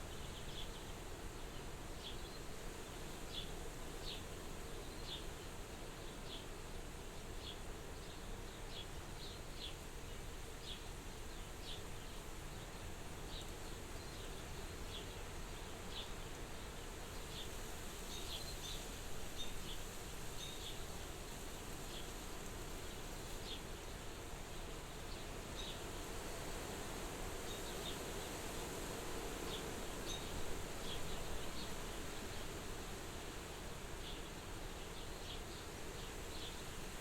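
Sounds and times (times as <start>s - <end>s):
wind at a window: 0.0s - 37.0s.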